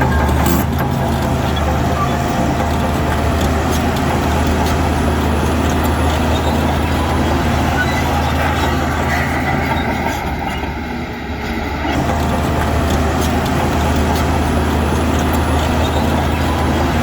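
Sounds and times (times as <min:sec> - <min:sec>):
heavy machinery diesel engine: 0:00.0 - 0:17.0.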